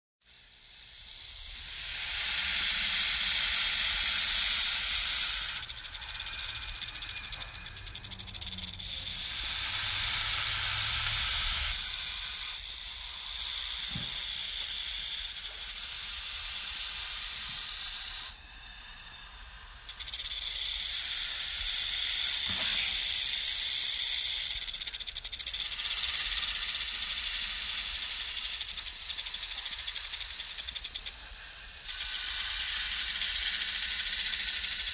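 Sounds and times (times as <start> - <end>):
snake hissing: 0.3 - 34.9.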